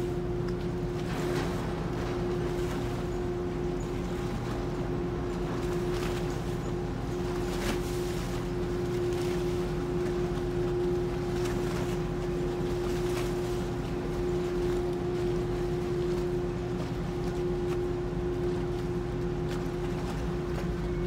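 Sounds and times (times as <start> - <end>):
ship diesel engines humming: 0.0 - 21.0.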